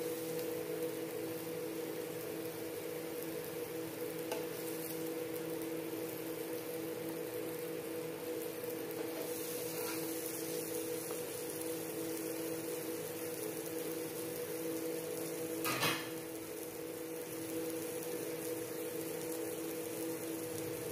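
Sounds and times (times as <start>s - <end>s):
background hum and hiss: 0.0s - 20.9s.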